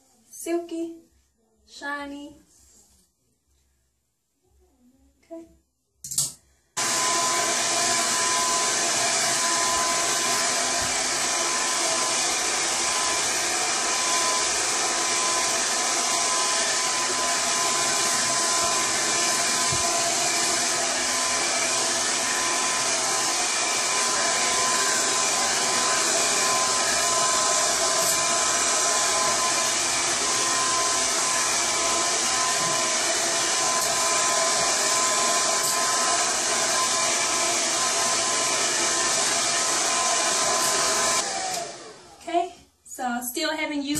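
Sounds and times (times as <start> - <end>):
blow dryer running: 6.8 - 42.3.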